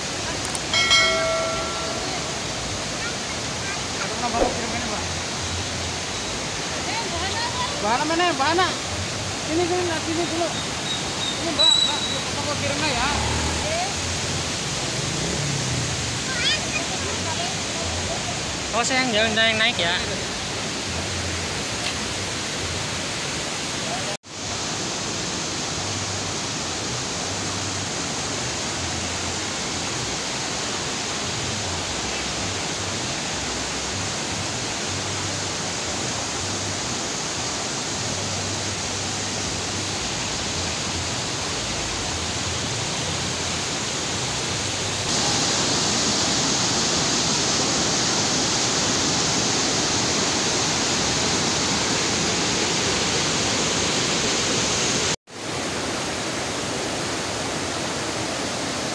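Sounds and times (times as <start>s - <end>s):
river rushing over rocks: 0.0s - 58.9s.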